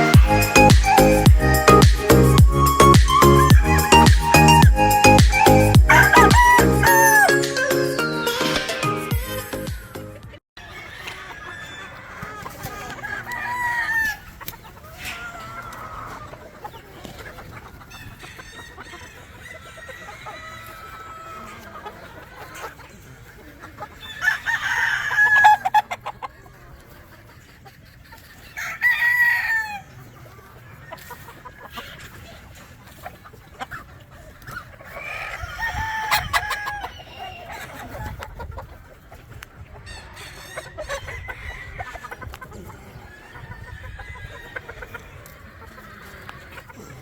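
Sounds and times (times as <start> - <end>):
chicken clucking: 0.0 - 8.7, 10.1 - 47.0
roosters crowing: 0.0 - 9.0, 10.6 - 27.1, 28.4 - 32.6, 34.1 - 47.0.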